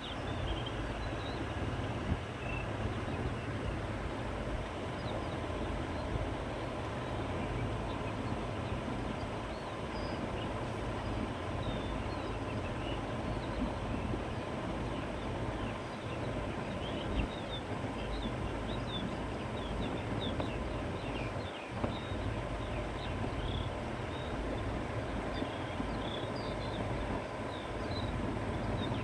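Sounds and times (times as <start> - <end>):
wind through grass and trees: 0.0 - 29.0.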